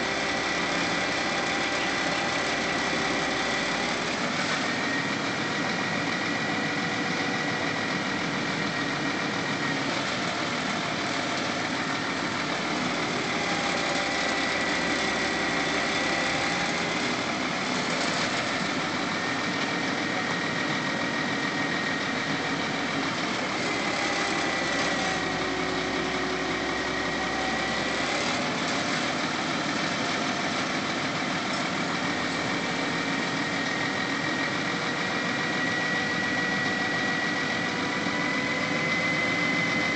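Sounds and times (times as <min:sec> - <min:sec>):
crane whining tone: 0:00.0 - 0:39.9
truck engine running: 0:00.0 - 0:39.9.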